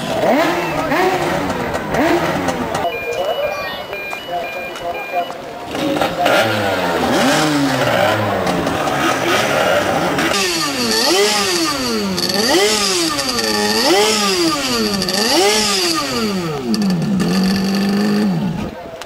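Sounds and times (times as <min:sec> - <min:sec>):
outboard engine revving: 0:00.0 - 0:02.9, 0:05.7 - 0:18.8.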